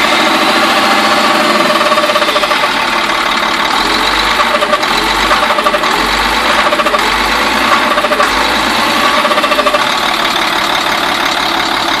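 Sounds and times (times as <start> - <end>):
diesel engine knocking: 0.0 - 12.0.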